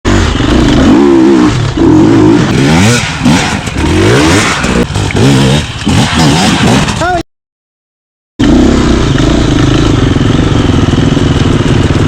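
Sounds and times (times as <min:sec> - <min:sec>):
dirt bike engine revving: 0:00.1 - 0:07.2, 0:08.4 - 0:12.0.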